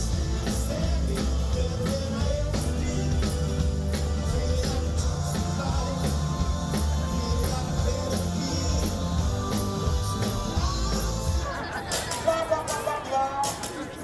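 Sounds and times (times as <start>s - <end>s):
person singing: 0.0s - 13.8s
rock and roll song: 0.0s - 14.0s.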